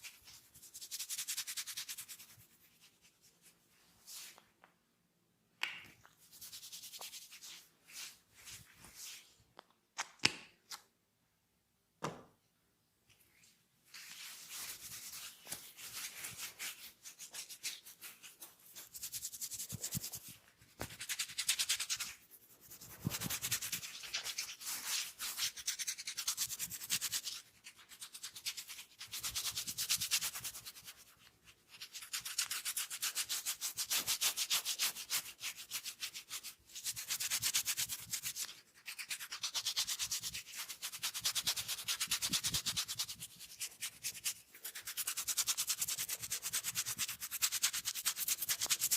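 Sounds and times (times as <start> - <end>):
hands rubbing oiled skin: 6.0 - 9.7, 13.2 - 48.9.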